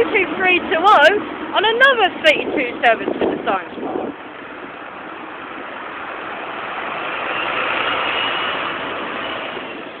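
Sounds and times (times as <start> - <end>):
bus driving past: 0.0 - 10.0.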